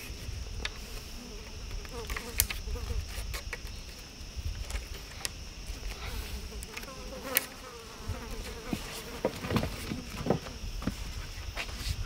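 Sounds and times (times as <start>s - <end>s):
flying insect buzzing: 0.0s - 12.0s
high-pitched insect drone: 0.0s - 12.0s.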